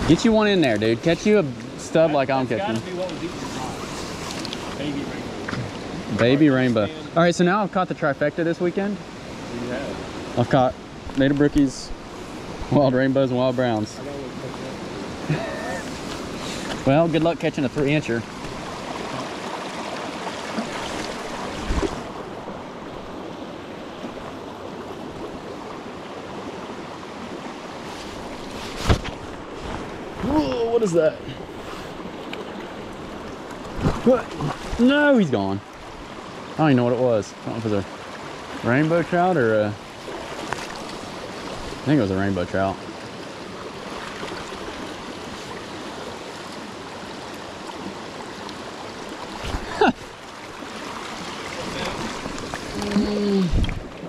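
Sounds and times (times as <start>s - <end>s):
creek running over stones: 0.0s - 54.0s
stream rushing over rocks: 0.0s - 54.0s.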